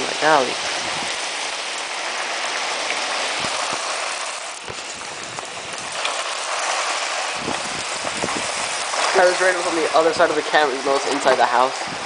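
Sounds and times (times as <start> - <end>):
heavy rain pouring down: 0.0 - 12.0.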